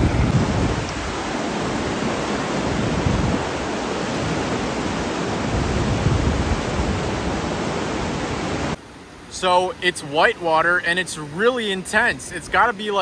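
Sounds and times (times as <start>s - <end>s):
whitewater rushing in rapids: 0.0s - 13.0s.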